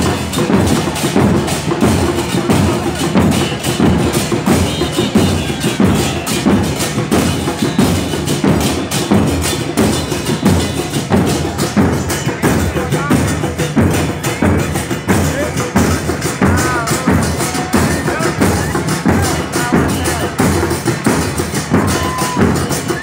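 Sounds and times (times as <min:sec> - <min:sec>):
bass drums and cymbals beating: 0:00.0 - 0:23.0.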